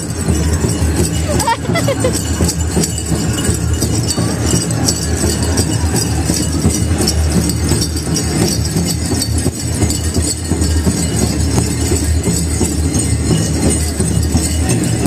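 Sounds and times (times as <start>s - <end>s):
drum group drumming: 0.0s - 15.0s.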